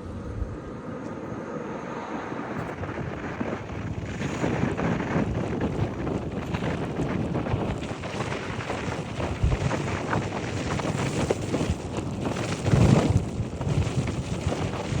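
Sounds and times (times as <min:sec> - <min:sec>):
wind rushing past a car: 0:00.0 - 0:15.0.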